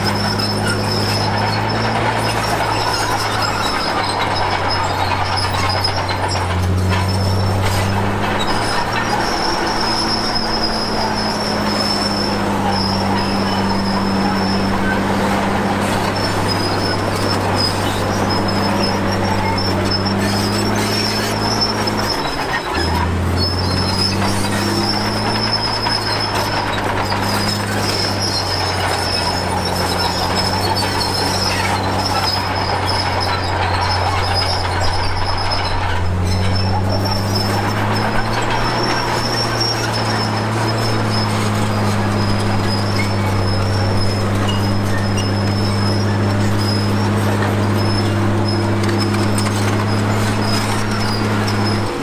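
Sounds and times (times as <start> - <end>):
bulldozer diesel engine running: 0.0 - 52.0
steel tracks squealing: 0.0 - 52.0.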